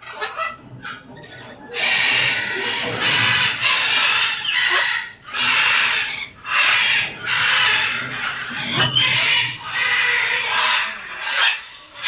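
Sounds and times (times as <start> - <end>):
parrot giving harsh raspy calls: 1.7 - 12.0.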